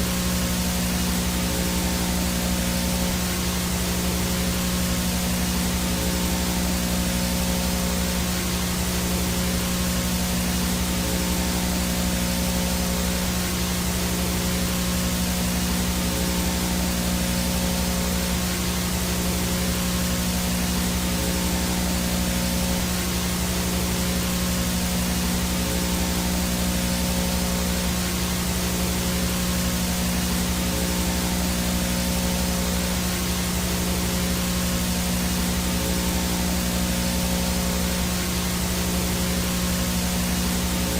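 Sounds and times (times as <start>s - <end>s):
low electrical hum: 0.0s - 40.9s
video static hiss: 0.0s - 40.9s.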